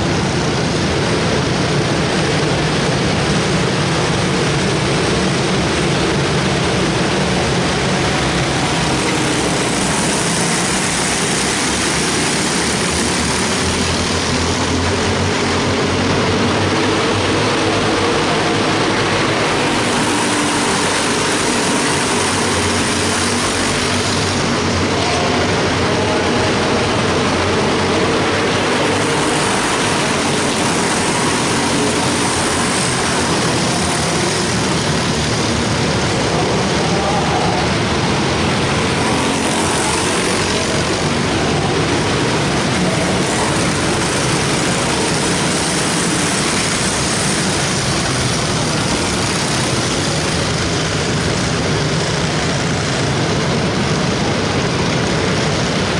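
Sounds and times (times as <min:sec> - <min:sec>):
race car engines droning: 0:00.0 - 0:55.9.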